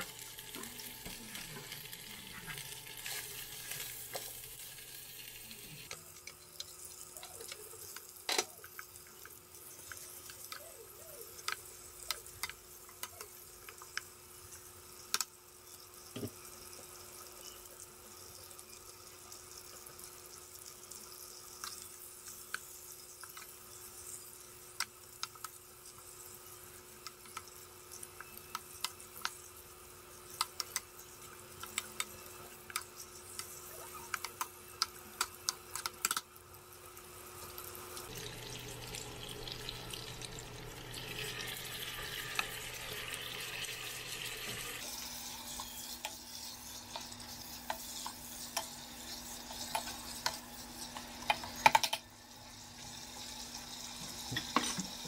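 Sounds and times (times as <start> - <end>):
meat sizzling: 0.0 - 55.0.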